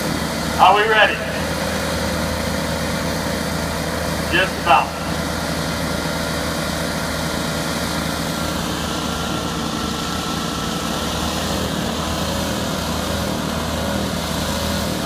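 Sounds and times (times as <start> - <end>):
lawnmower engines idling: 0.0 - 15.0.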